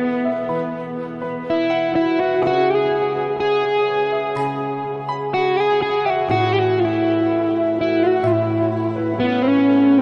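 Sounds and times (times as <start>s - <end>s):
guitar melody: 0.0s - 10.0s.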